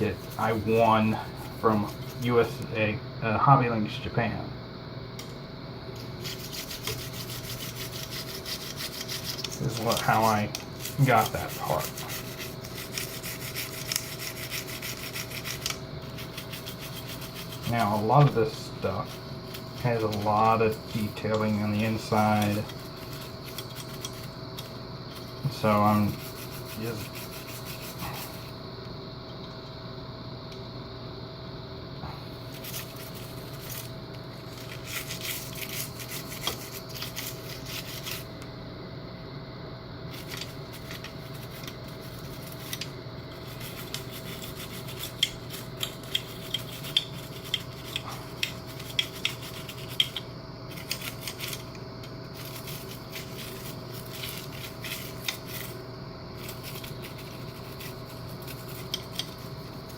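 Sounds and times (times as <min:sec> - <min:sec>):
toothbrush scrubbing plastic parts: 0:00.0 - 0:02.6, 0:06.0 - 0:28.5, 0:32.4 - 0:38.3, 0:40.1 - 0:55.8, 0:56.4 - 0:59.9.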